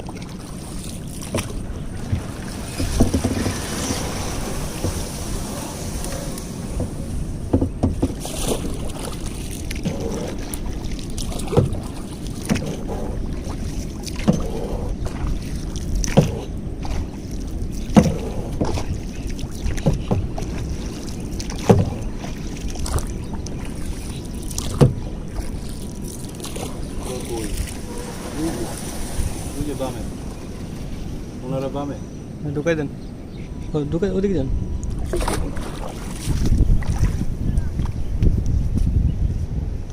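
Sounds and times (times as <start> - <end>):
paddles splashing in water: 0.0 - 31.9, 34.8 - 38.2
water rushing: 0.0 - 33.0, 34.8 - 37.5
wind: 0.0 - 39.9.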